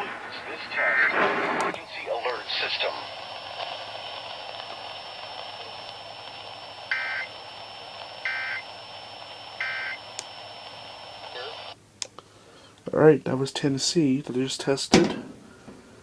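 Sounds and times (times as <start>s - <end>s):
radio hiss: 0.0s - 16.0s.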